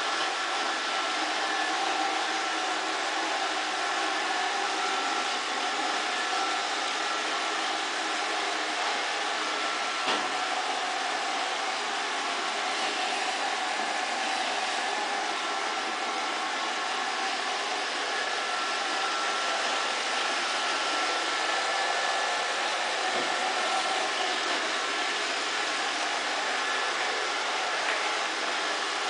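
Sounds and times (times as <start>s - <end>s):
robot vacuum running: 0.0s - 29.0s.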